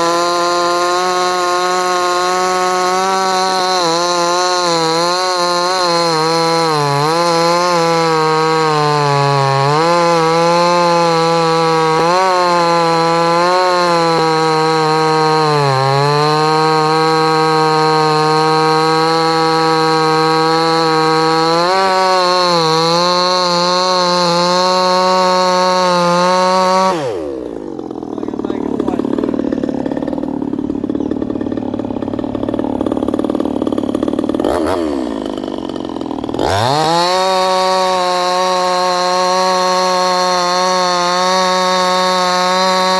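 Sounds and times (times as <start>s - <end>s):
chainsaw cutting hard wood: 0.0s - 42.9s.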